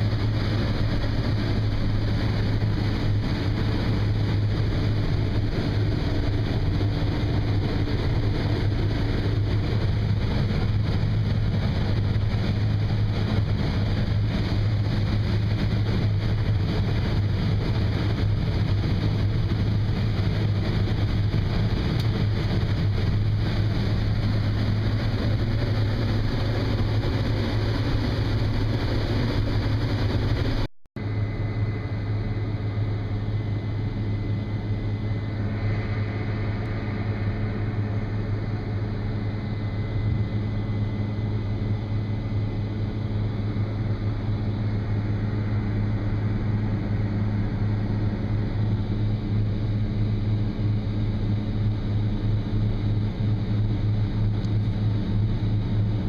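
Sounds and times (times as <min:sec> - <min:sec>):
combine engine drone: 0:00.0 - 0:56.0
faint high whine: 0:00.0 - 0:56.0.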